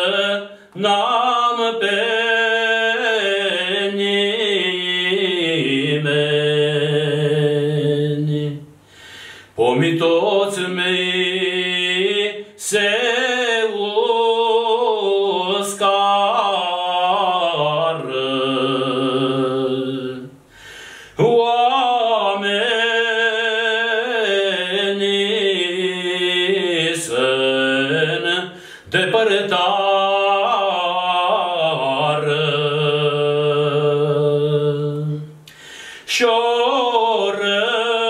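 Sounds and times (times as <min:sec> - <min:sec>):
man singing unaccompanied lament: 0:00.0 - 0:08.7, 0:09.5 - 0:20.4, 0:21.1 - 0:35.4, 0:36.0 - 0:38.0.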